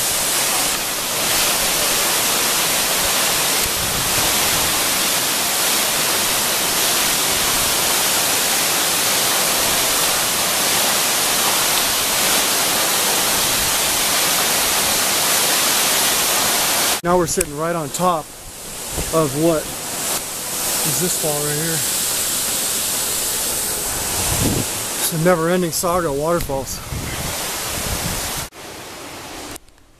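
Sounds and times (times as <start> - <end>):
waterfall rushing: 0.0 - 29.5.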